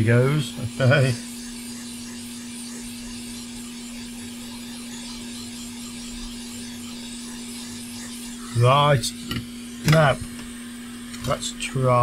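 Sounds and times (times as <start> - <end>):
hot air blower hissing: 0.0 - 12.0
steady hum: 0.0 - 12.0.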